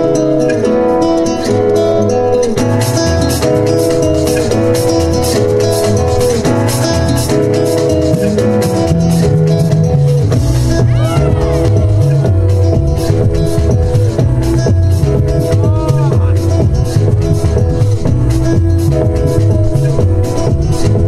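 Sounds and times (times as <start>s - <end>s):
dance music over loudspeakers: 0.0s - 21.0s.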